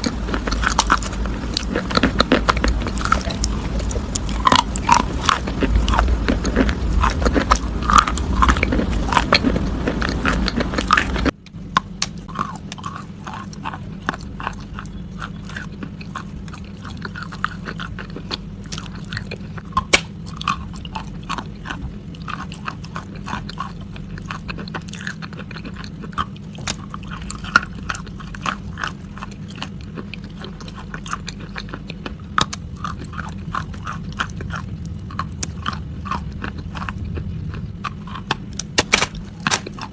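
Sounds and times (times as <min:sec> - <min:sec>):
chewing crisp food: 0:00.0 - 0:39.9.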